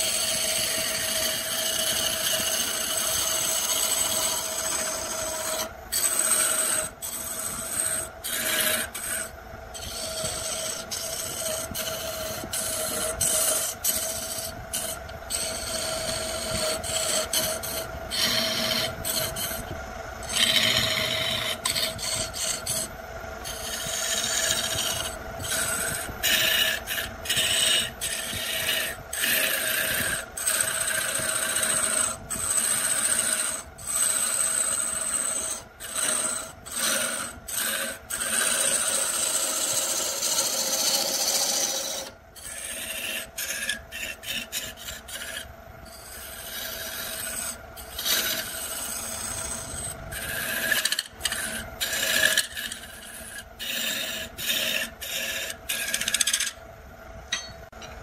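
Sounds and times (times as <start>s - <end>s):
lathe tool scraping wood: 0.0s - 56.6s.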